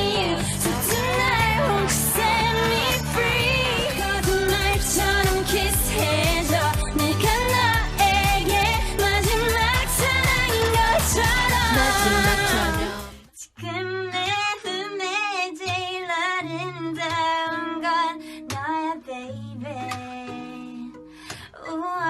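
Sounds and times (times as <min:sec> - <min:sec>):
pop song with woman singing: 0:00.0 - 0:22.0.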